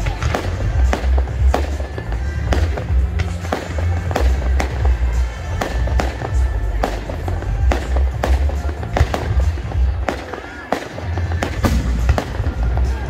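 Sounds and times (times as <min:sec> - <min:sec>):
fireworks launching and bursting: 0:00.0 - 0:13.0.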